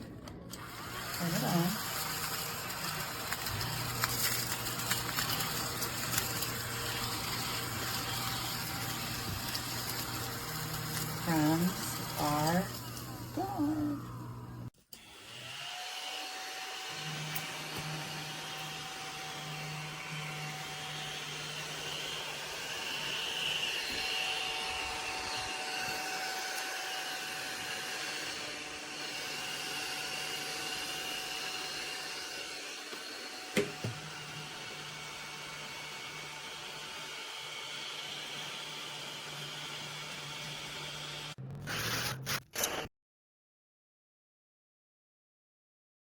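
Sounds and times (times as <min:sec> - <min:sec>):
mini vacuum cleaner whining: 0:00.3 - 0:42.8.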